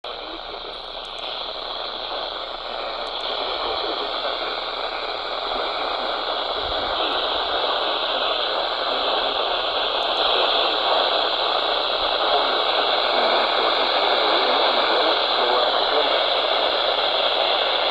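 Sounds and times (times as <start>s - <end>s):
radio static hiss: 0.0s - 17.9s.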